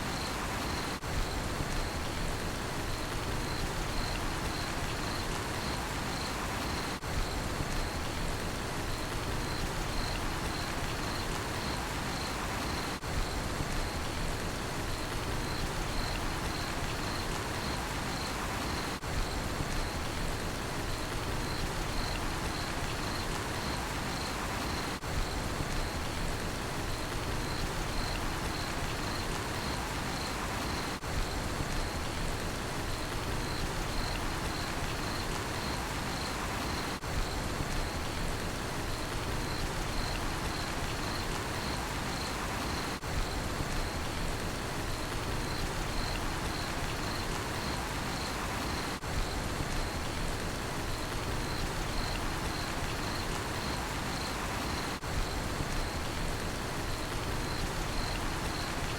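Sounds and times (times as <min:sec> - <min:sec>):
cricket chirping: 0:00.0 - 0:02.2, 0:02.8 - 0:08.2, 0:08.8 - 0:14.2, 0:14.9 - 0:20.2, 0:20.8 - 0:26.2, 0:26.8 - 0:32.2, 0:32.8 - 0:58.9
steady rain: 0:00.0 - 0:58.9.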